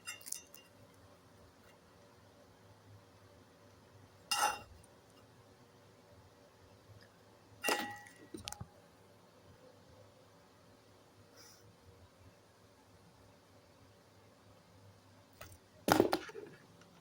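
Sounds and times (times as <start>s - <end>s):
faint room noise: 0.0s - 17.0s.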